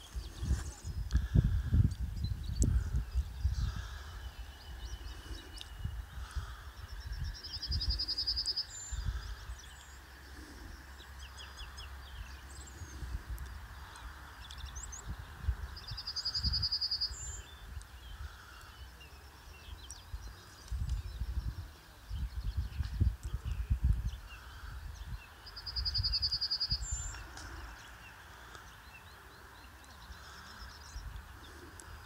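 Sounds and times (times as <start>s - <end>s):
wind buffeting microphone: 0.0s - 10.6s, 11.9s - 18.6s, 19.4s - 28.0s.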